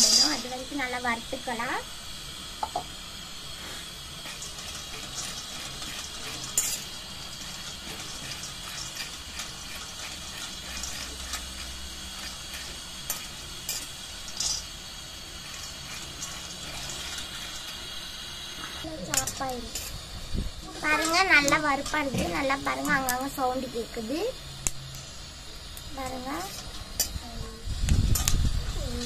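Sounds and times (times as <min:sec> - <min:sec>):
gas stove hiss: 0:00.0 - 0:29.0
peanuts rattling in a pan: 0:00.0 - 0:29.0.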